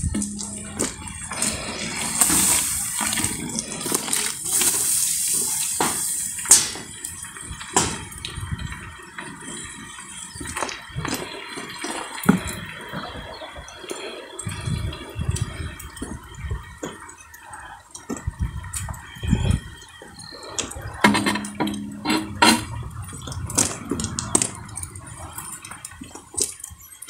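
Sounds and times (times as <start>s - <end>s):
water dripping: 0.0s - 27.0s.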